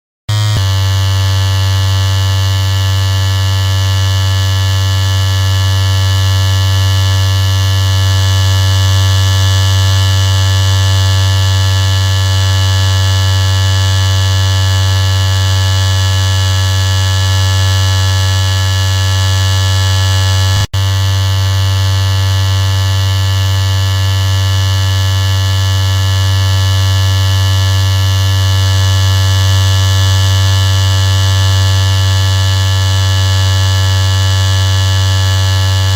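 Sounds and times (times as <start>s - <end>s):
electric shaver buzzing: 0.3s - 35.9s.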